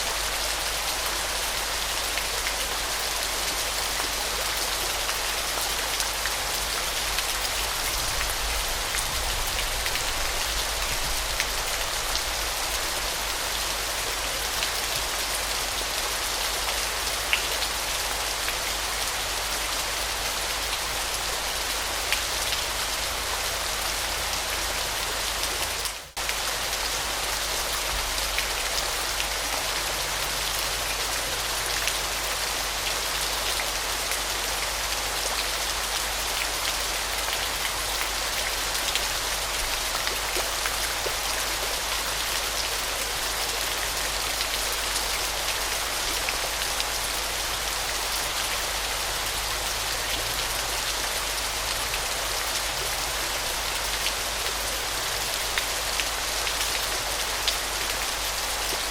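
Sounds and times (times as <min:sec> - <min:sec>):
waterfall: 0:00.0 - 0:58.9.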